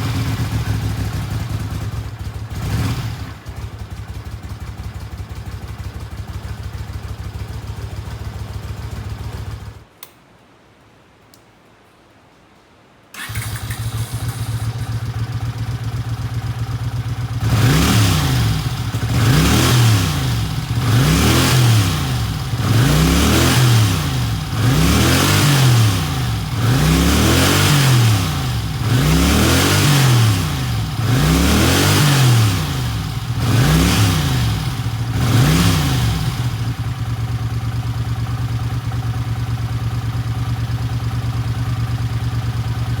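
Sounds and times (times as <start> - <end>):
motorcycle engine idling and revving: 0.0 - 9.9, 13.2 - 43.0.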